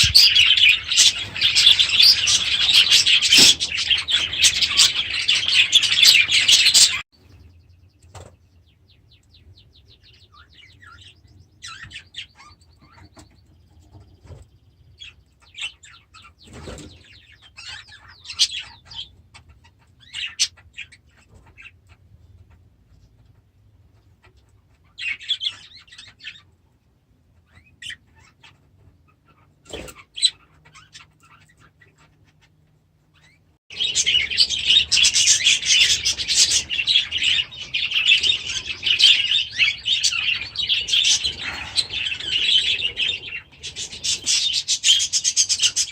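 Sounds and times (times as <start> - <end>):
budgies chirping and chattering: 0.0 - 26.6, 27.4 - 45.9.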